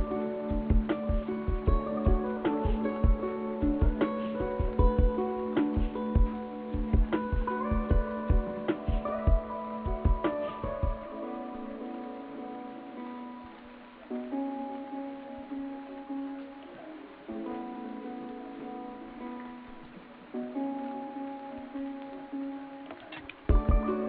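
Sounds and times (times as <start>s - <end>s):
soft background music chords: 0.0s - 24.0s.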